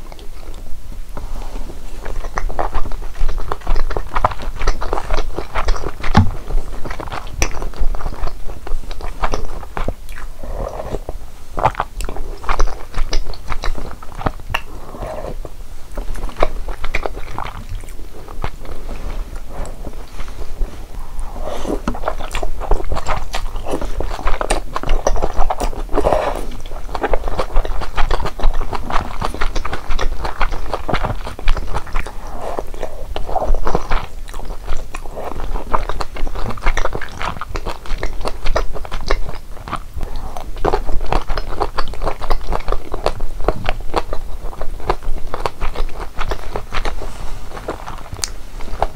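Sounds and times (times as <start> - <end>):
close chewing with wet smacks: 2.0 - 48.9.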